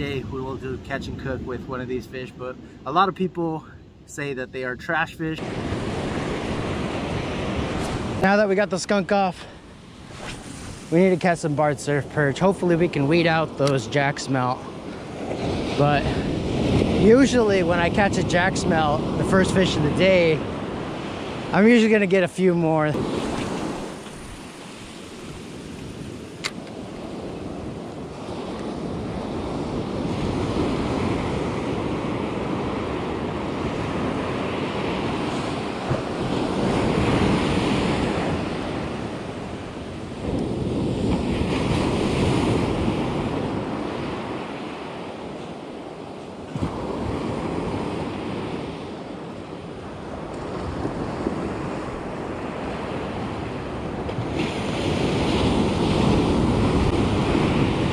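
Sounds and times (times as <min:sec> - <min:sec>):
wind on microphone: 0:03.8 - 0:08.3, 0:09.3 - 0:21.7, 0:22.7 - 0:57.9
surf breaking on beach: 0:05.2 - 0:57.9.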